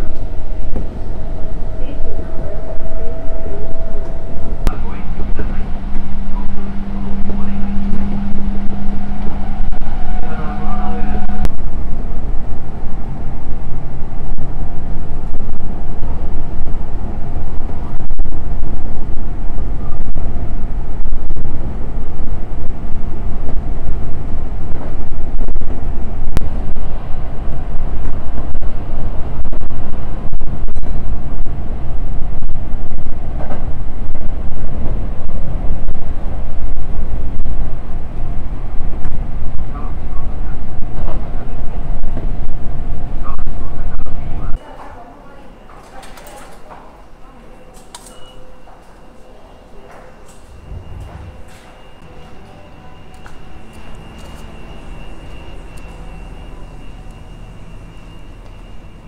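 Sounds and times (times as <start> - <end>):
train wheels rumbling on rails: 0.0 - 44.9, 45.6 - 59.0
steady hum: 0.0 - 59.0.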